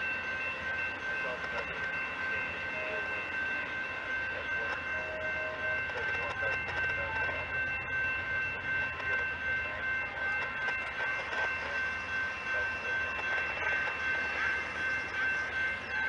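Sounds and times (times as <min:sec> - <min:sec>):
train wheels squealing on rails: 0:00.0 - 0:16.0.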